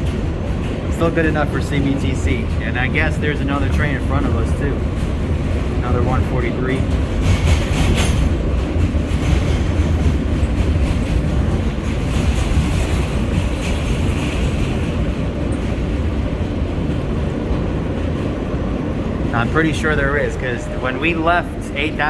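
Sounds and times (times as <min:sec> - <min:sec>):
subway train wheels rumbling: 0:00.0 - 0:22.0.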